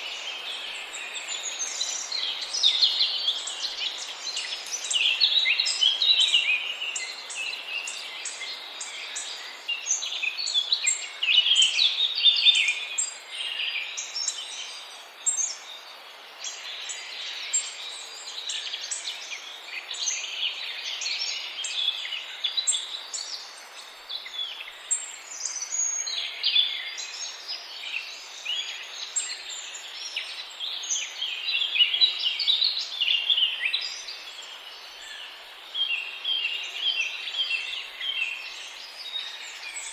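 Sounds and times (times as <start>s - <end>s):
flock of birds chirping: 0.0s - 39.9s
steady background hiss: 0.0s - 39.9s.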